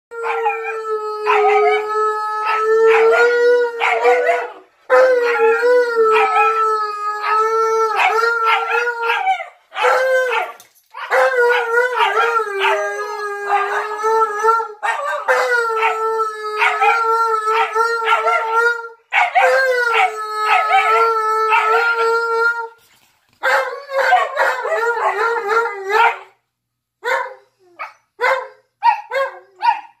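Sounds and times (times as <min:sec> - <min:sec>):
dogs howling: 0:00.1 - 0:22.7, 0:23.5 - 0:26.4.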